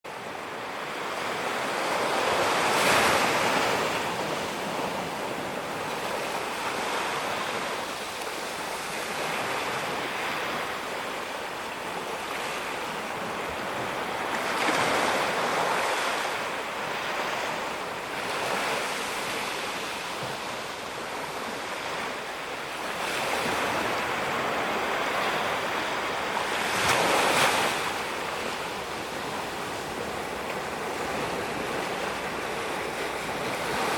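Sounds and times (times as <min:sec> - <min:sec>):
waves breaking on beach: 0:00.1 - 0:33.9.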